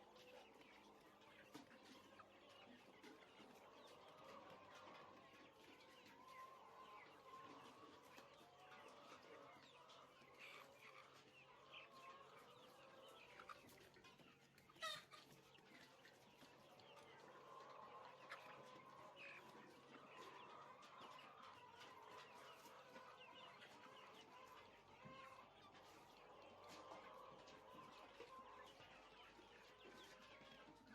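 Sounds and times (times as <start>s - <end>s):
poultry flock cheeping: 0.0s - 30.9s.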